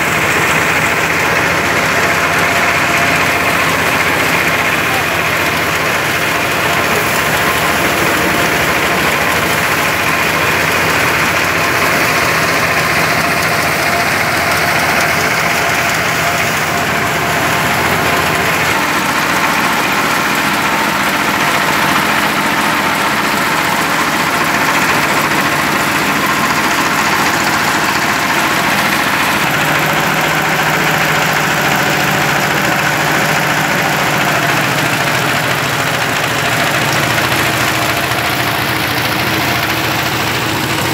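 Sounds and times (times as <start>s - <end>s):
small diesel engine running: 0.0s - 40.9s
threshing drum whirring: 0.0s - 40.9s.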